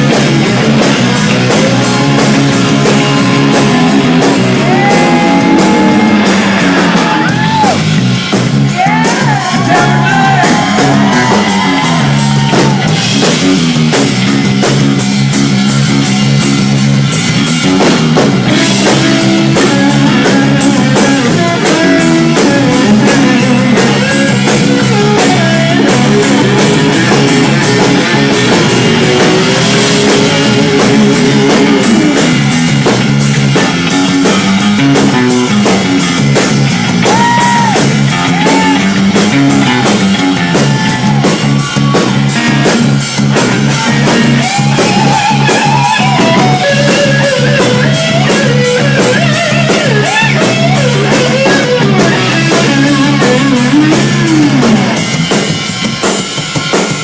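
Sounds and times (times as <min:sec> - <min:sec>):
lead guitar bending notes: 0:00.0 - 0:08.7, 0:09.6 - 0:55.9
live rock band: 0:00.0 - 0:57.0.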